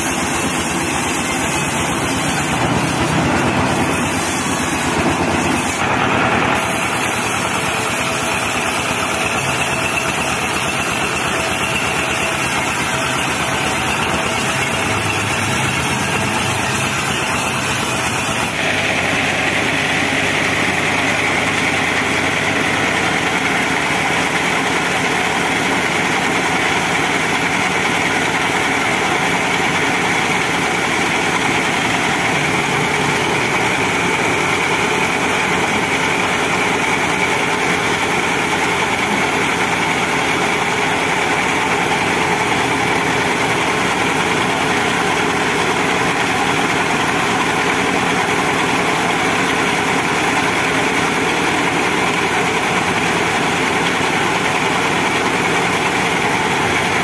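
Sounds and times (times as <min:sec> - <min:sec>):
sawmill and diesel engine droning: 0:00.0 - 0:57.0.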